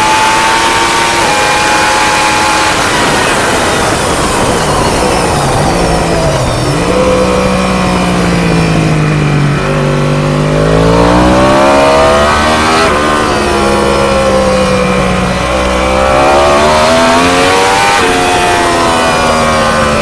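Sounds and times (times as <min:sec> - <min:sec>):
race motorcycle engine revving: 0:00.0 - 0:20.0
wind noise: 0:00.0 - 0:20.0.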